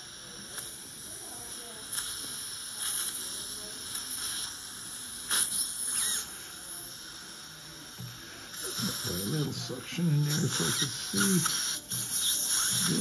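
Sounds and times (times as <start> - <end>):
dental suction hissing: 0.0 - 13.0.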